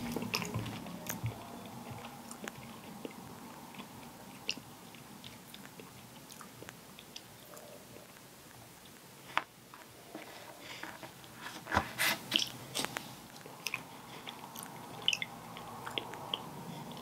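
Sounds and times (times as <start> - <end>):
person chewing ice cream: 0.0 - 9.3, 12.3 - 17.0.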